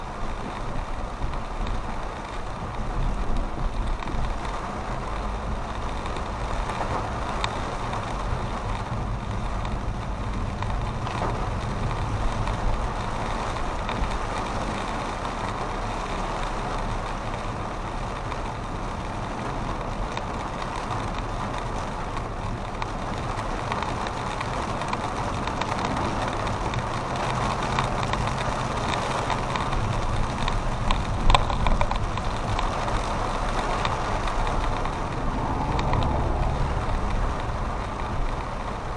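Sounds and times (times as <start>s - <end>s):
road noise: 0.0s - 38.9s
vehicle engine hum: 0.0s - 38.9s.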